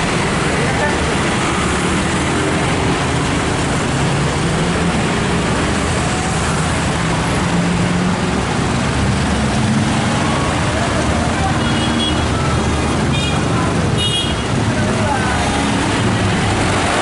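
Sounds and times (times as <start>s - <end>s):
bus engine humming: 0.0s - 17.0s
street traffic noise: 0.0s - 17.0s.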